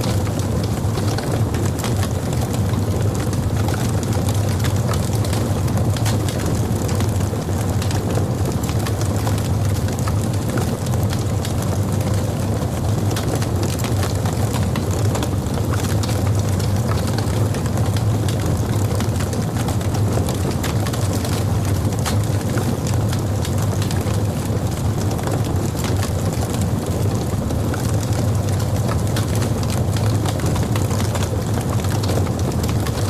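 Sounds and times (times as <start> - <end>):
fire crackling and popping: 0.0 - 33.0
fire rumbling: 0.0 - 33.0.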